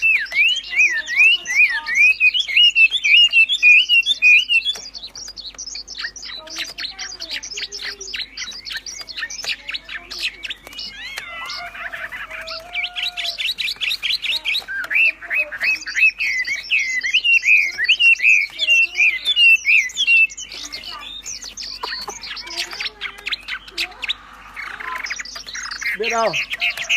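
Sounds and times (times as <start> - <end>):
songbird singing rapid chirps: 0.0 - 26.9.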